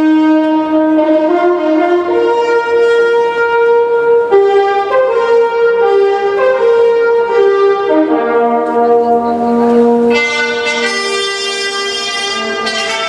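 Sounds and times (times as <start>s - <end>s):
orchestral ballet music: 0.0s - 13.0s.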